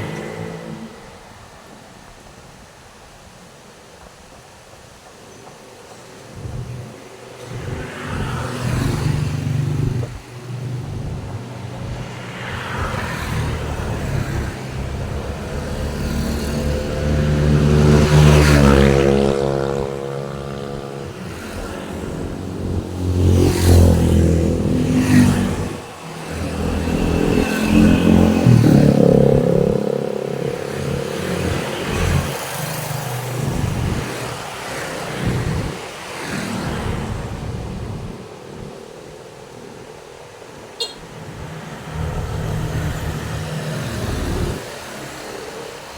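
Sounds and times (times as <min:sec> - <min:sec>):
vehicles driving past: 0:00.0 - 0:01.7, 0:05.9 - 0:45.9.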